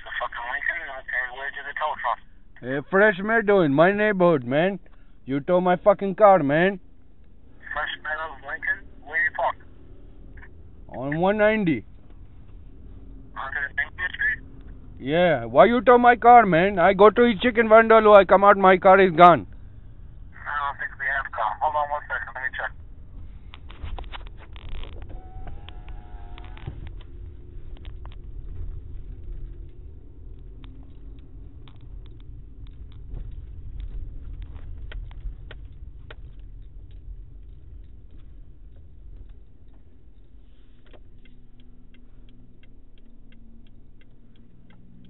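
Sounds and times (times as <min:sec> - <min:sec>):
low rumbling phone line noise: 0:00.0 - 0:45.0
steady ticking: 0:02.5 - 0:45.0.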